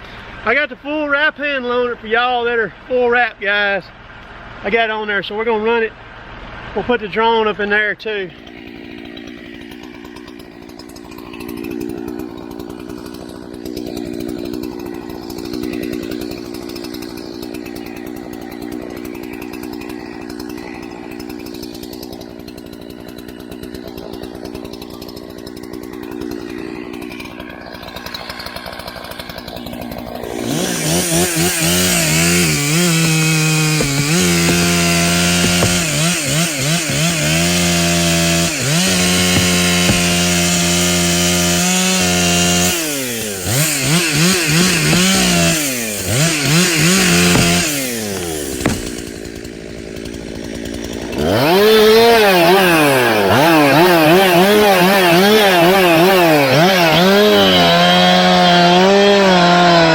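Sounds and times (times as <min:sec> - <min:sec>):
chainsaw cutting into wood: 0:08.3 - 0:59.9.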